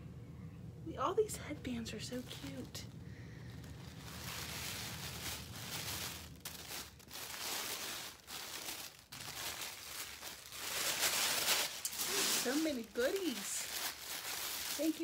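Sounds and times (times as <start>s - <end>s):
tissue paper and clothes rustling: 1.4s - 15.0s.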